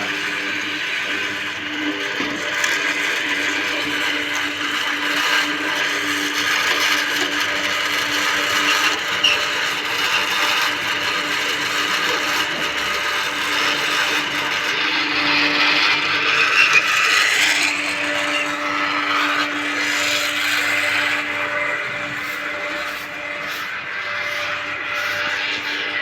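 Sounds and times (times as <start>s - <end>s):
machine humming and hissing: 0.0s - 26.0s.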